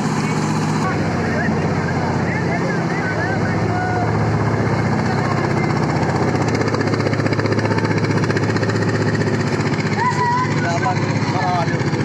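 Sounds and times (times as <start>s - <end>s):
boat engine pulsing: 0.0s - 12.0s.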